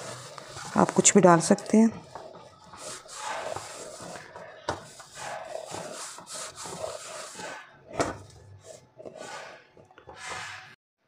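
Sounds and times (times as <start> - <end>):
dough scraping against metal: 0.0 - 10.8.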